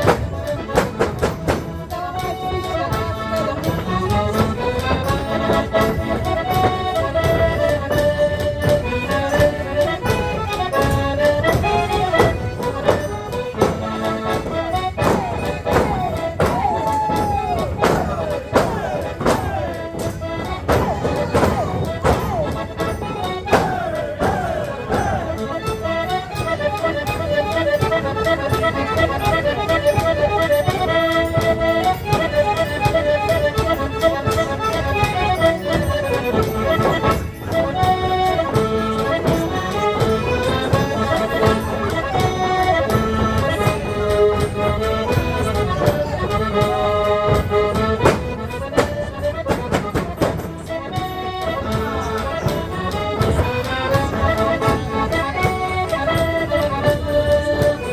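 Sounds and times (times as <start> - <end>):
accordion lively melody: 0.0 - 57.9
percussion strikes: 0.0 - 57.9.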